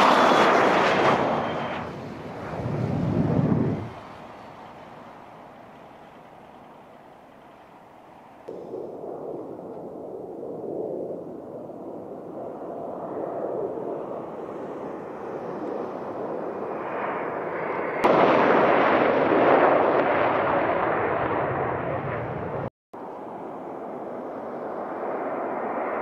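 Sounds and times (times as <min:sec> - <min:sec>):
jet engines roaring on takeoff: 0:00.0 - 0:26.0.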